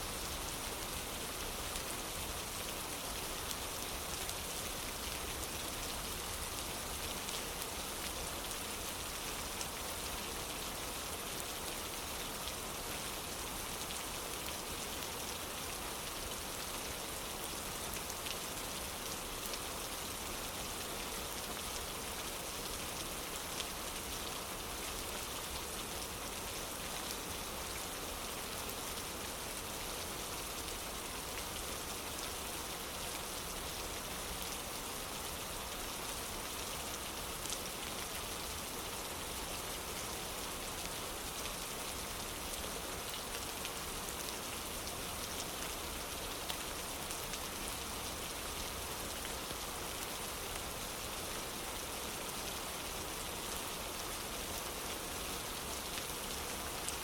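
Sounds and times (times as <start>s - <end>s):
rain on a wooden porch: 0.0s - 57.0s.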